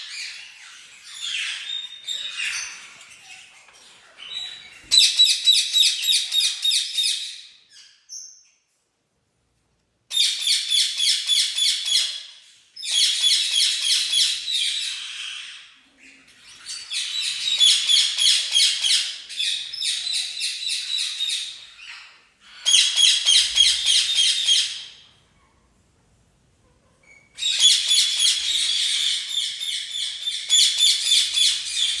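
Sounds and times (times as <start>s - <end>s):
parrot high chirping: 0.0s - 8.4s, 10.1s - 25.2s, 27.0s - 32.0s.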